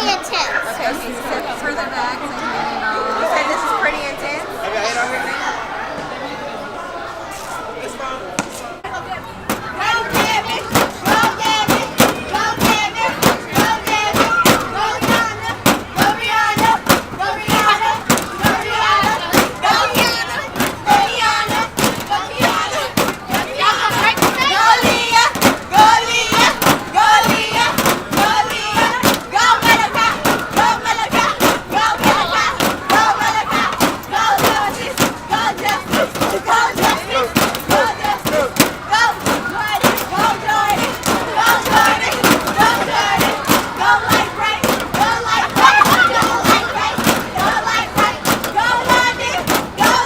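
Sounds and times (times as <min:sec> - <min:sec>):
child chanting: 0:09.2 - 0:50.0
claps or stomps: 0:09.5 - 0:50.0.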